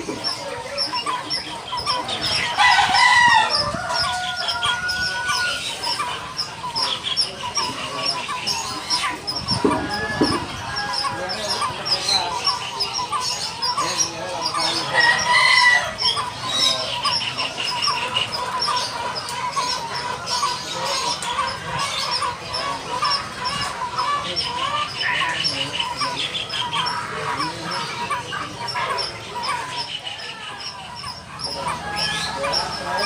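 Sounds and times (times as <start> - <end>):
young birds chirping: 0.0 - 33.0.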